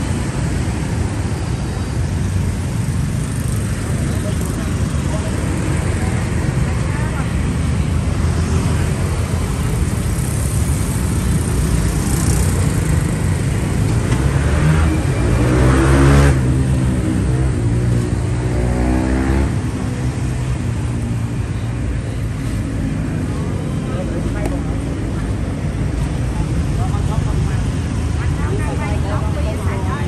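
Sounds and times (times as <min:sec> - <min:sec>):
vehicle engines running: 0:00.0 - 0:30.0.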